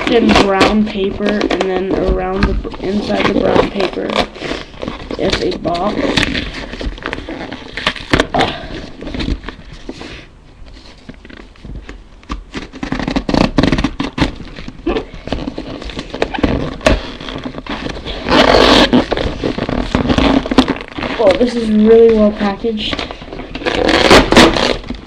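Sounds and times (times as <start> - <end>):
cardboard box scraping: 0.0 - 25.0
paper crinkling: 0.0 - 25.0
paper rustling: 0.0 - 25.0.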